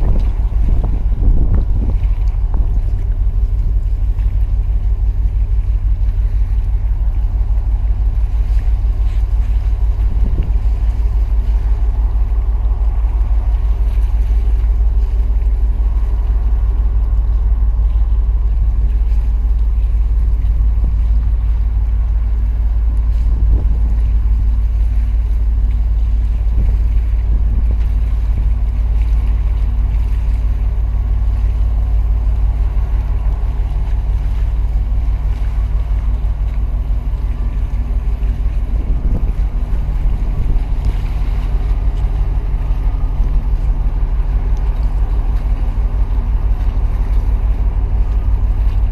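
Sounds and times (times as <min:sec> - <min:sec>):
higher hum: 0:00.0 - 0:48.9
ship low rumble: 0:00.0 - 0:48.9
wind buffeting microphone: 0:00.0 - 0:48.9.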